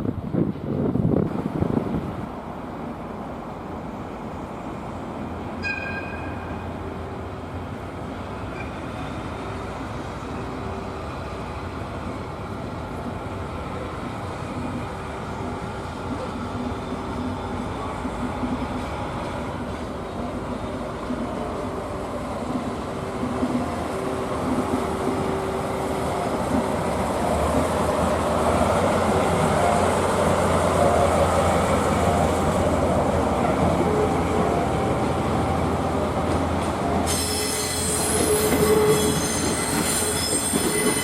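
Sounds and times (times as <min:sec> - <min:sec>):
diesel locomotive running: 0:00.0 - 0:41.0.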